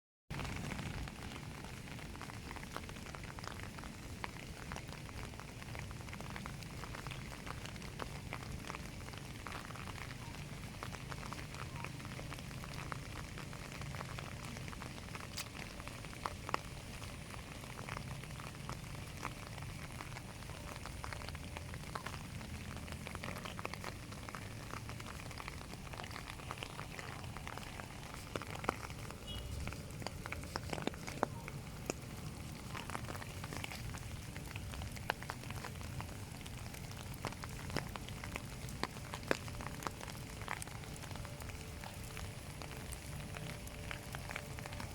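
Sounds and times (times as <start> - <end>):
steady rain falling: 0.3 - 44.9.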